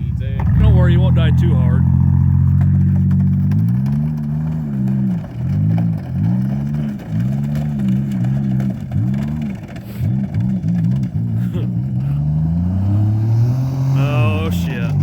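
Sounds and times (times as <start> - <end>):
car engine revving at full throttle: 0.0 - 15.0.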